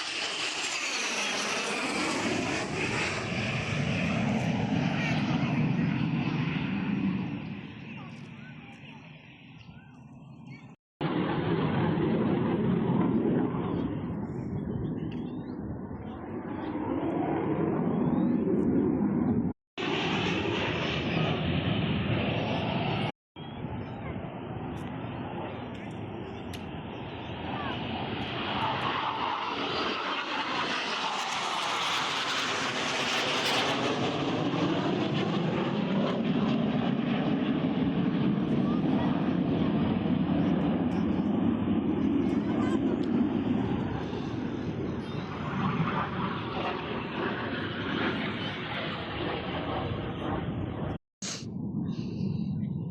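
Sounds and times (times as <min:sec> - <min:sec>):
plane flying by: 0:00.0 - 0:52.9.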